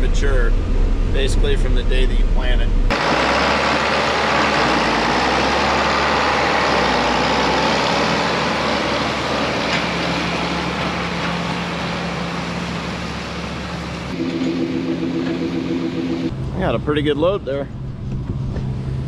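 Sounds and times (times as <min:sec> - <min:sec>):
diesel engine hum: 0:00.0 - 0:19.0.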